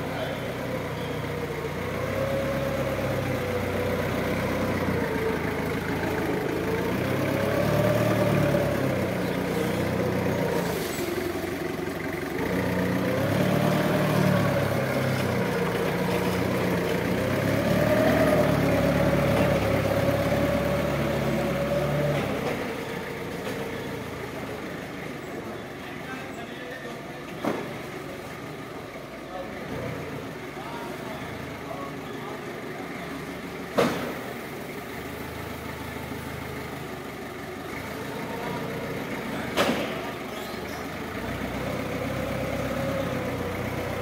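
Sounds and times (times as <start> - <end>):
forklift engine running: 0.0 - 44.0.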